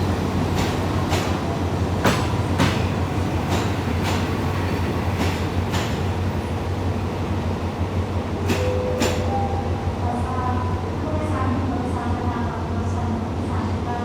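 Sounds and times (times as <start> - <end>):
diesel train engine rumble: 0.0 - 14.0.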